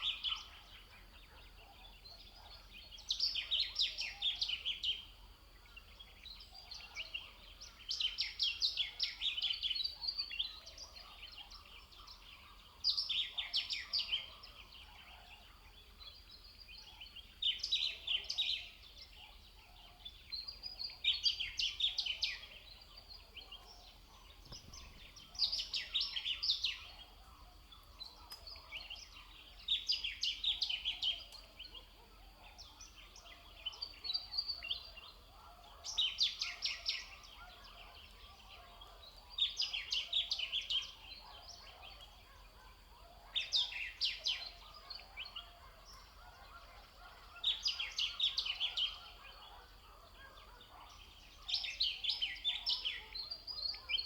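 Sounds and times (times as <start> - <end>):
faint outdoor ambience: 0.0 - 54.0.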